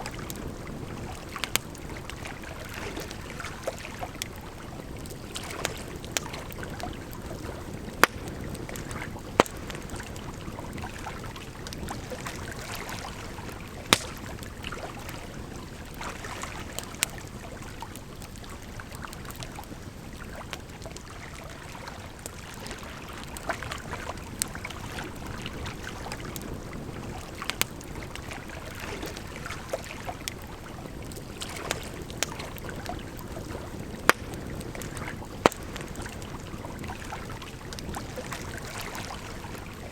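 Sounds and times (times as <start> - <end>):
campfire crackling: 0.0 - 39.9
flowing water: 0.0 - 39.9.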